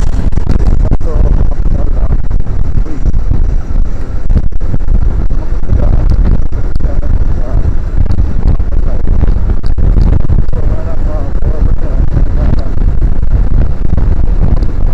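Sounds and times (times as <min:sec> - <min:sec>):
road noise: 0:00.0 - 0:14.9
wind buffeting microphone: 0:00.0 - 0:14.9.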